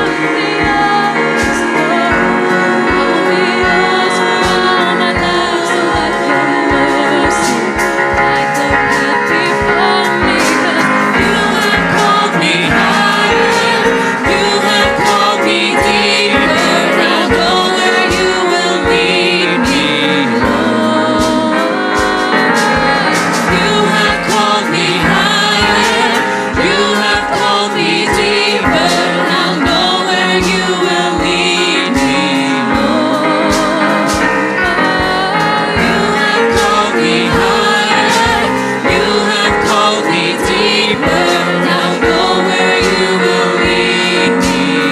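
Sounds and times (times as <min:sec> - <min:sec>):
worship song with choir and band: 0:00.0 - 0:44.9.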